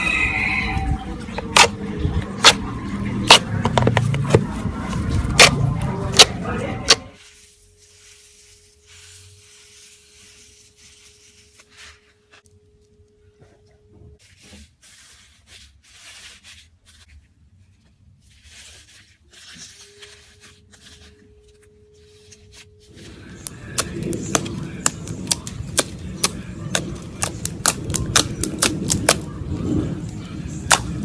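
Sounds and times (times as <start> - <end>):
slime rubbing and crackling: 0.0 - 12.4, 14.2 - 31.0.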